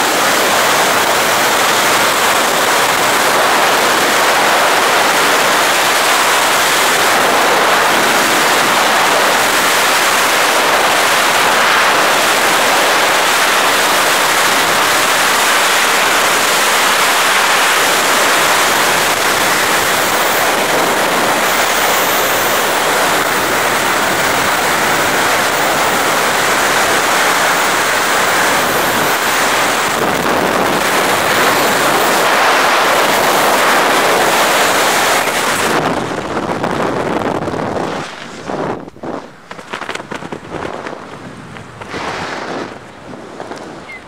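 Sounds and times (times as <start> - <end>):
wind roaring over microphone: 0.0 - 44.0.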